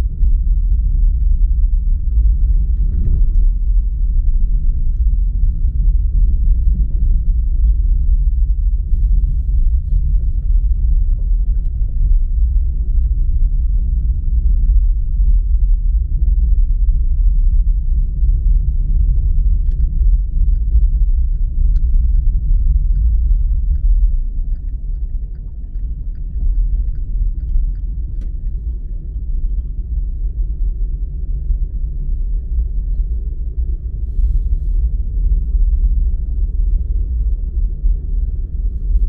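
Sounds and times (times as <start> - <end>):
car road and engine noise: 0.0 - 16.6, 17.2 - 39.0.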